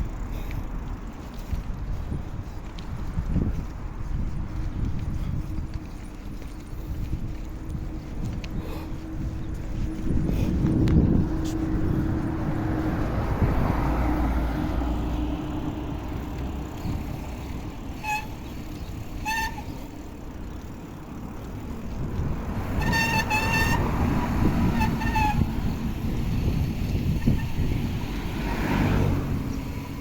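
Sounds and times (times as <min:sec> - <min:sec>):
road traffic rumble: 0:00.0 - 0:30.0
wind rushing over microphone: 0:01.0 - 0:30.0.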